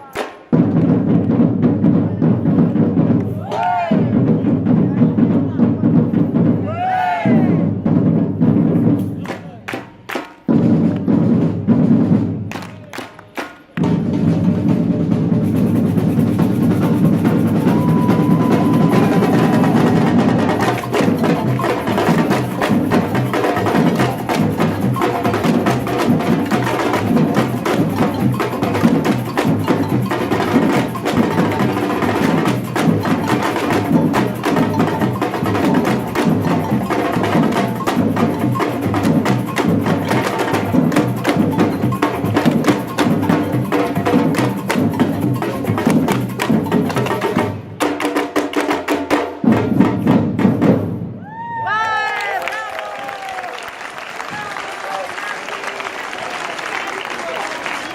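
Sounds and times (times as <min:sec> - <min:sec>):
samba drum ensemble: 0:00.0 - 0:52.4.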